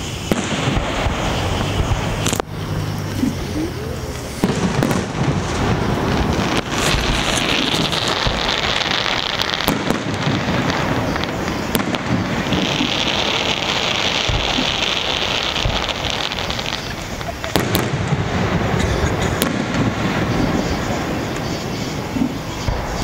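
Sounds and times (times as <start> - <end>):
fireworks crackling: 0.0 - 23.0
fireworks shells bursting: 0.0 - 23.0.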